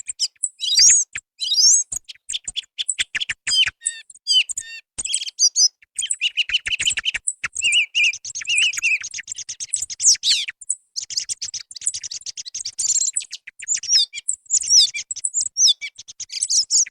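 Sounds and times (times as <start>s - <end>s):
song thrush singing: 0.0s - 16.9s.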